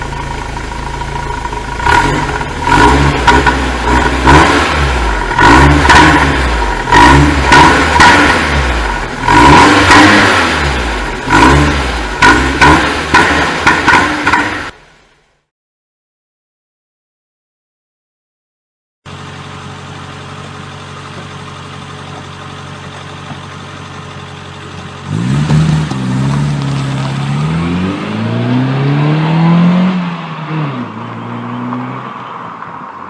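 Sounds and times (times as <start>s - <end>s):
car engine idling and revving: 0.0s - 15.2s, 19.1s - 33.0s.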